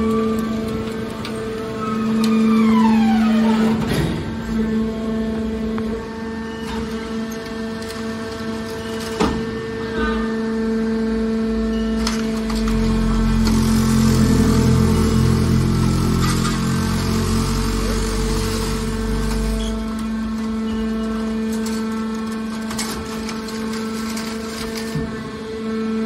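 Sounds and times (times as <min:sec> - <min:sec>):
hydraulic power unit hum: 0:00.0 - 0:26.0.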